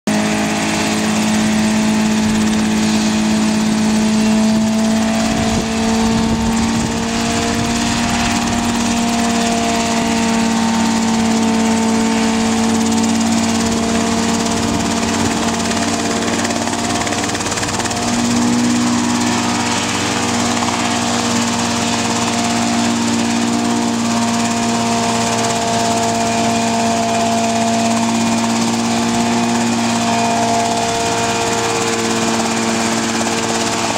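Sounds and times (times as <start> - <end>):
helicopter engine droning: 0.1 - 33.9.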